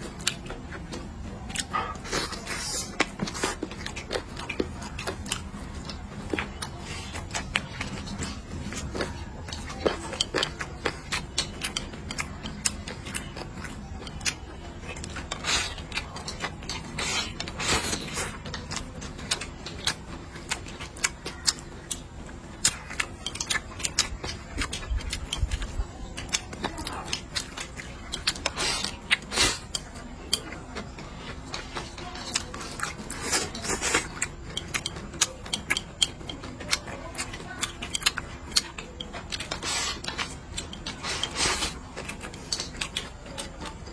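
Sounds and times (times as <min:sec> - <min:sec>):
chewing: 0:00.0 - 0:43.9
utensils clicking against dishes: 0:00.2 - 0:43.9.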